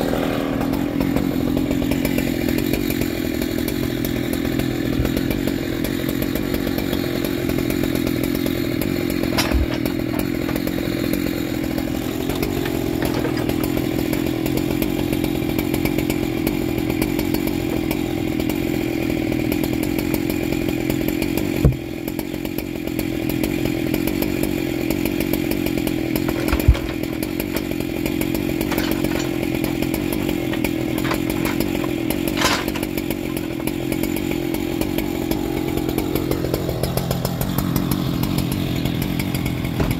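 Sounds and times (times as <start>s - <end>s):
chainsaw engine idling: 0.0s - 39.9s.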